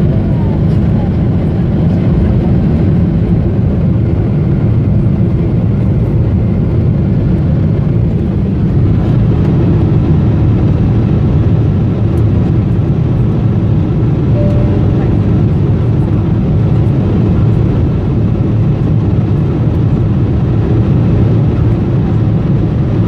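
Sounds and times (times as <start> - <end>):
jet engines rumbling in cabin: 0.0 - 23.0.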